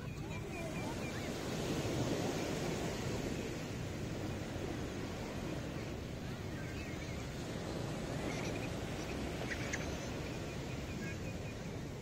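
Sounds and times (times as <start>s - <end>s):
sea surf washing onto beach: 0.0s - 11.2s.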